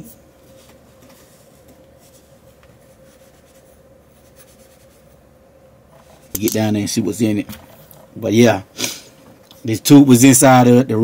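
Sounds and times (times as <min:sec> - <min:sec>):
thin steady hum: 0:00.0 - 0:11.0.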